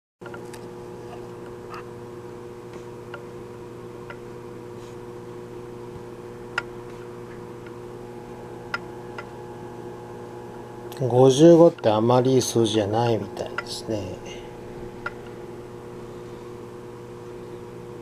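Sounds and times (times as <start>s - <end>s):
hum of held tones: 0.2s - 18.0s.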